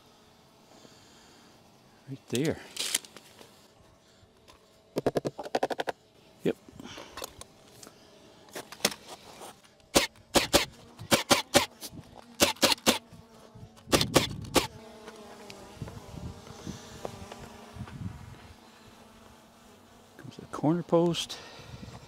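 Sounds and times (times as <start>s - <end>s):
drone propellers buzzing: 0.0s - 20.2s.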